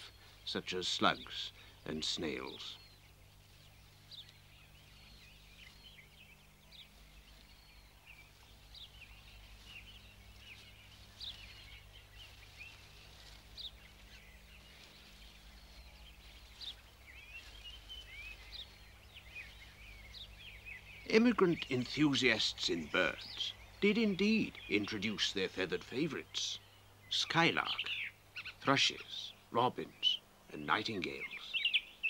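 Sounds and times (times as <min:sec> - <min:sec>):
steady low hum: 0:00.0 - 0:29.6
birds chirping and whistling: 0:00.0 - 0:32.0.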